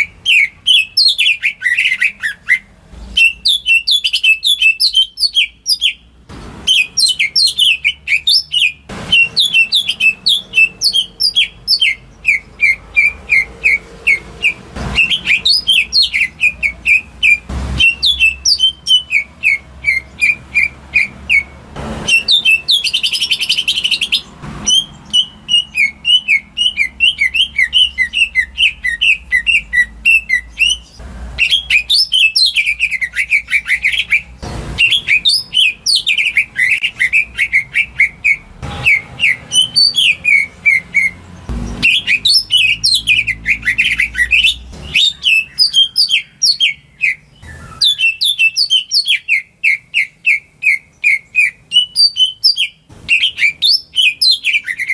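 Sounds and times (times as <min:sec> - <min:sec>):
bird singing sharp high chirps: 0:00.0 - 0:54.9.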